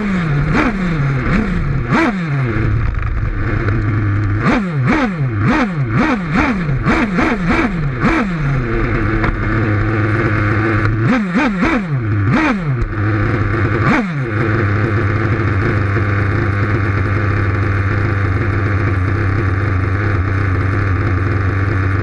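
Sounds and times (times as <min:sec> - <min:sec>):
small engine revving and idling: 0:00.0 - 0:22.0.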